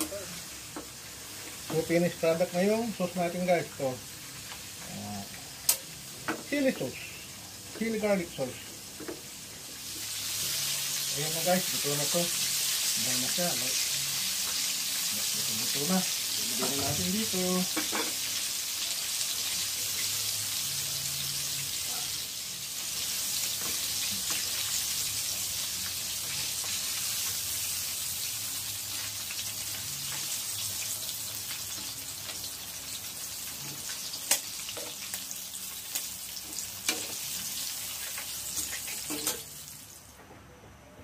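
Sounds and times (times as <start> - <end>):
oil sizzling: 0.0 - 40.2.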